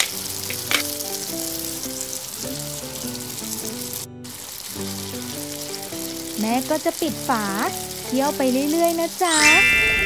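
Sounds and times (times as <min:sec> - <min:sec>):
background music stepping melody: 0:00.0 - 0:10.0
frying sizzle: 0:00.0 - 0:10.0.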